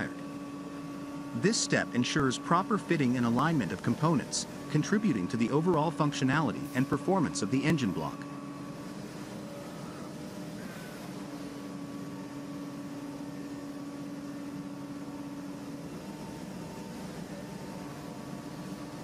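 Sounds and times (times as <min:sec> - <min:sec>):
milling machine spindle hum: 0:00.0 - 0:19.0.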